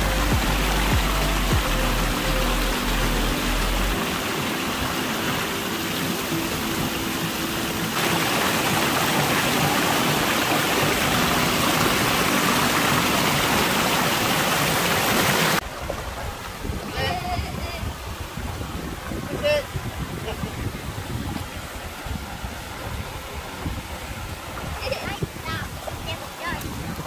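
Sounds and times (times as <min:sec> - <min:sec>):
river and waterfall rushing: 0:00.0 - 0:27.0.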